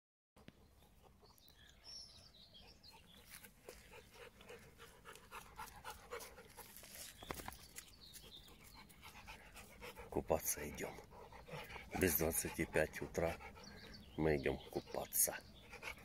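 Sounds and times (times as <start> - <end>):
dog panting: 0.4 - 16.0.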